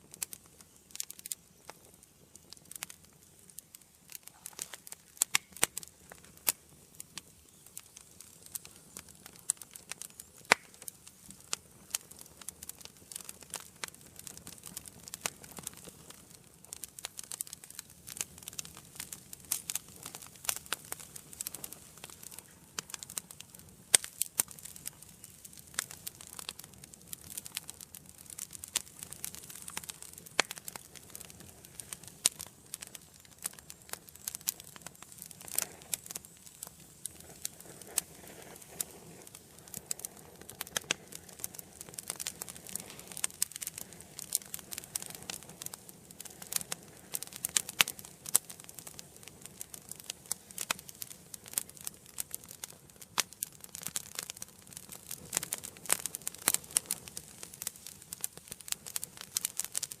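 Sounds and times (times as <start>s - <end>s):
soft hiss of flame: 0.0s - 60.0s
wood fire crackling and popping: 0.0s - 60.0s.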